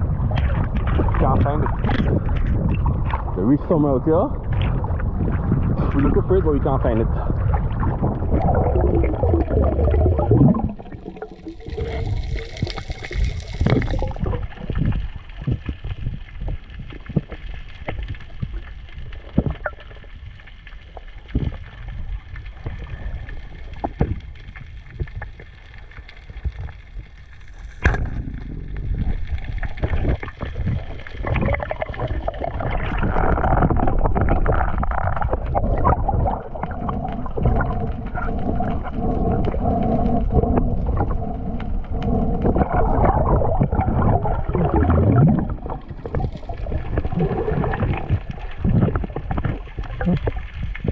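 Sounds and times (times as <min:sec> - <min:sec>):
sea water sloshing and gurgling: 0:00.0 - 0:50.9.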